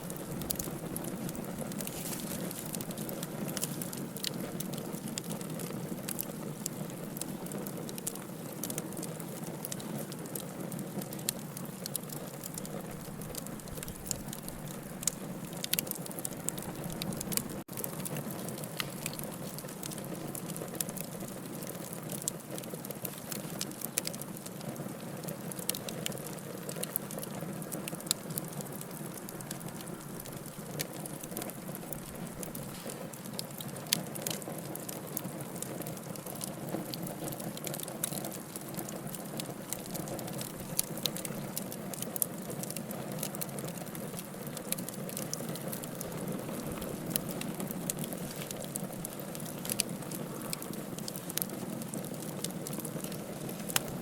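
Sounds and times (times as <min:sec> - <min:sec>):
rush of flames: 0:00.0 - 0:24.2, 0:24.9 - 0:54.0
fire crackles and pops: 0:00.0 - 0:54.0.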